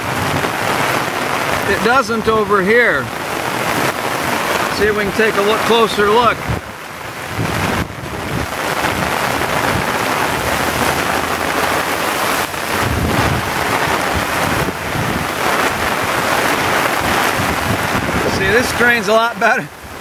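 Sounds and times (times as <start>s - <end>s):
heavy rain pouring: 0.0s - 20.0s
wind rumbling on microphone: 0.0s - 20.0s.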